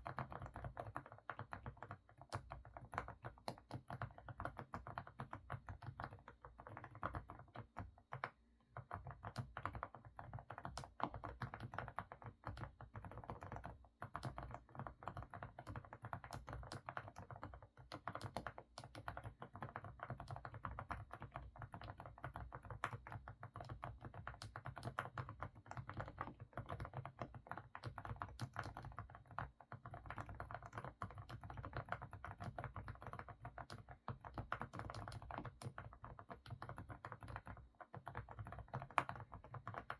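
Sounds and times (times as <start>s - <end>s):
fast typing on a keyboard: 0.0s - 39.9s.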